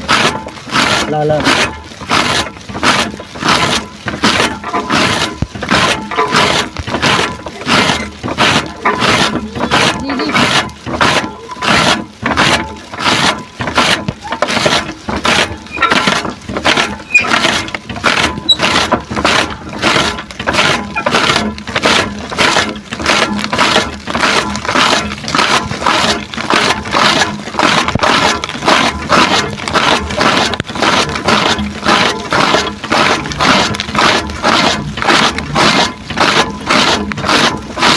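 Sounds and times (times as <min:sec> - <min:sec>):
grass being cut: 0:00.0 - 0:37.9.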